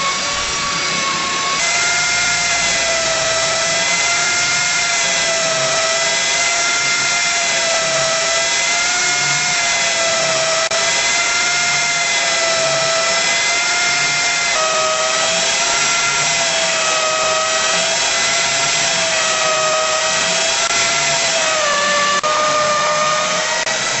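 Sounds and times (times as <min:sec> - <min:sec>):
machine motor whine: 0:00.0 - 0:24.0.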